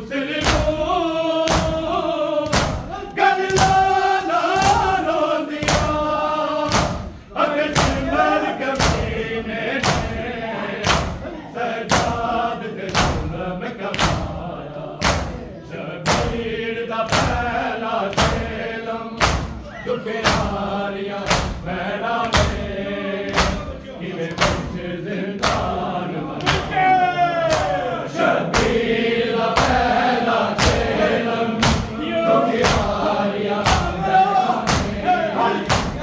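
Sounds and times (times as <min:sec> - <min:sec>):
men chanting a lament: 0:00.0 - 0:36.0.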